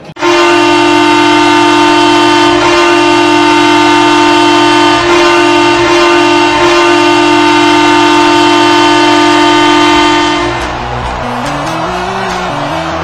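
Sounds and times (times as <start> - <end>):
hockey goal horn blast: 0.1 - 10.8.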